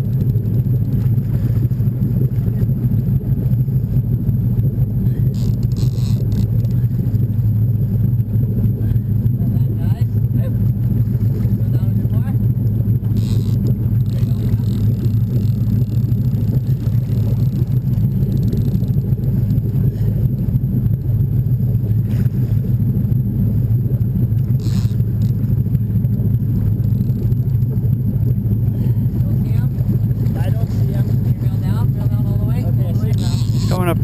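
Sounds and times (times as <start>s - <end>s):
boat motor rumbling: 0.0s - 34.0s.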